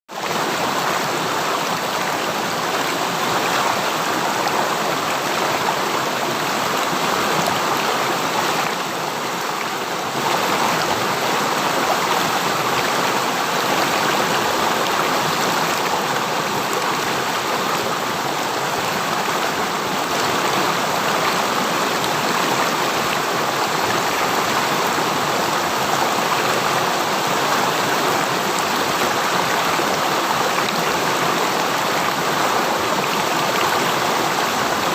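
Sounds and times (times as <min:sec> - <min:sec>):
river stream rushing: 0:00.1 - 0:34.9.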